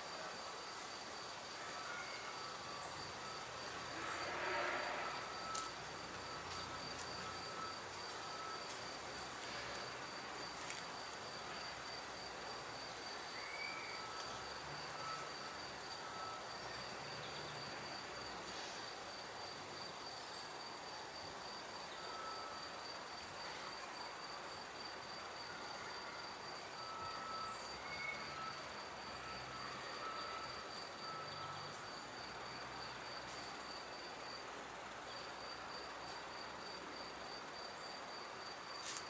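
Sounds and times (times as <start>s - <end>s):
constant background noise: 0.0s - 39.0s.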